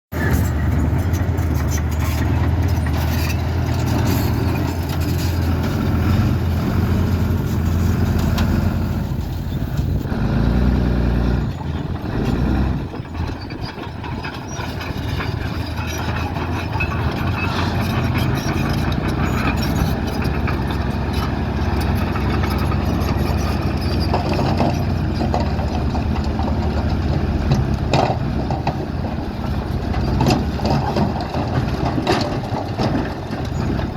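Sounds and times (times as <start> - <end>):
knocks and clanks: 0.1 - 10.1, 11.6 - 33.9
heavy diesel engines running: 0.1 - 33.9.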